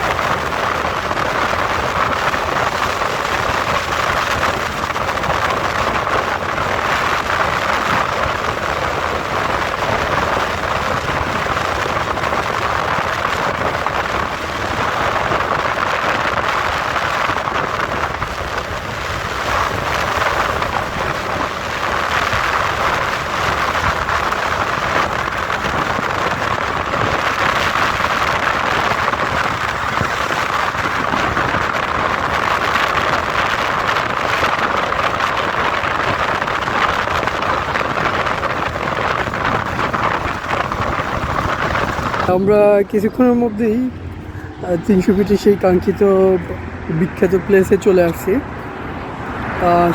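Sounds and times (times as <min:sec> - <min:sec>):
wind and road rushing: 0:00.0 - 0:49.9.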